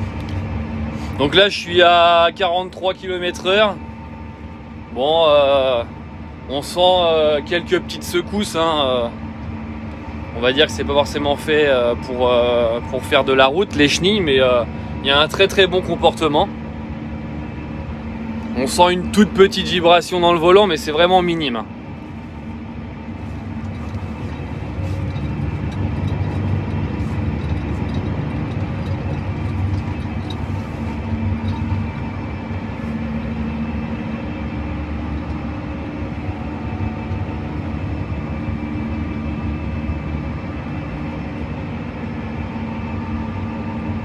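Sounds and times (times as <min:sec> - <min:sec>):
tractor engine hum: 0:00.0 - 0:44.0.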